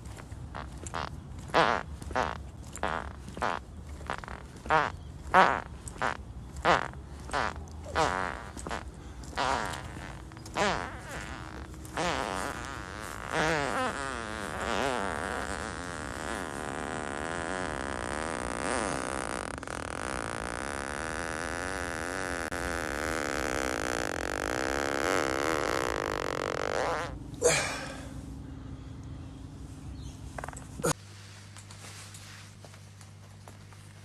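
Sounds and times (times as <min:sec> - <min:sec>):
man farting: 0:00.0 - 0:28.2, 0:30.4 - 0:31.0.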